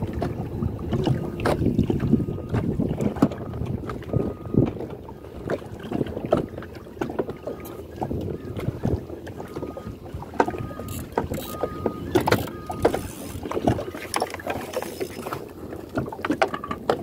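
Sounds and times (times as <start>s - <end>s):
knocks and splashes: 0.0s - 17.0s
water lapping against boat hull: 0.0s - 17.0s.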